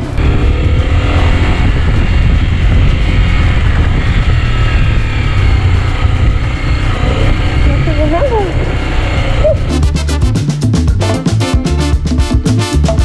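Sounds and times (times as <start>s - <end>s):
motorcycle engine rumbling: 0.0s - 12.1s.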